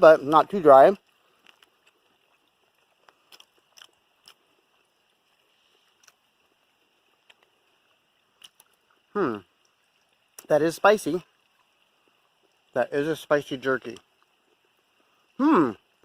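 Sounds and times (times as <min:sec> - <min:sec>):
quiet chewing of dry jerky: 0:00.2 - 0:10.5, 0:11.2 - 0:12.7, 0:13.8 - 0:15.4.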